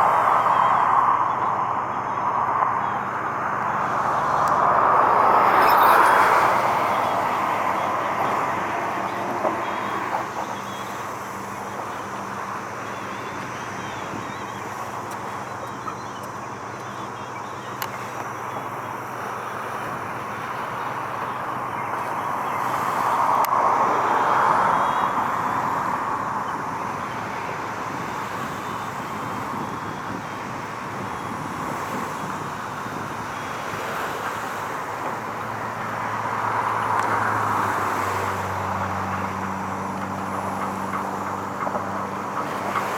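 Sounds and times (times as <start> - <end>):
road traffic: 0.0 - 42.9.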